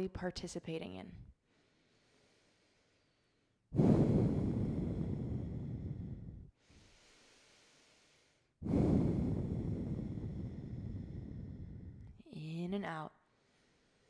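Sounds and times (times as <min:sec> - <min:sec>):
woman breathing deeply: 0:01.4 - 0:12.2, 0:13.2 - 0:14.0.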